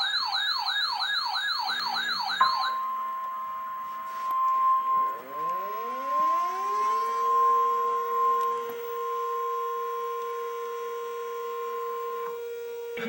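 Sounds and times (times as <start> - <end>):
electromechanical warning siren: 0.0 - 13.0.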